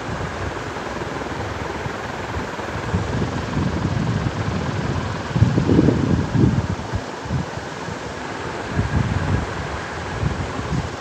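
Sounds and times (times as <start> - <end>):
ceiling fan airy hiss: 0.0 - 11.0
fan draft buffeting microphone: 0.0 - 11.0.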